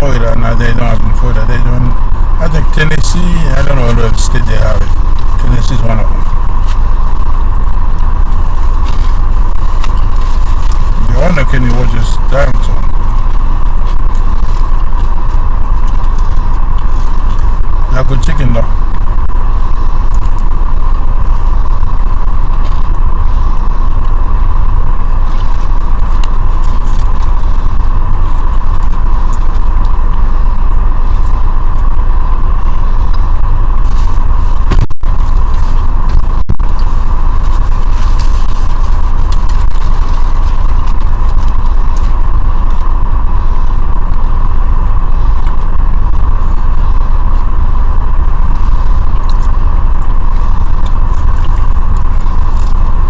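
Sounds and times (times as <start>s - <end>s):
vehicle rumble: 0.0s - 53.0s.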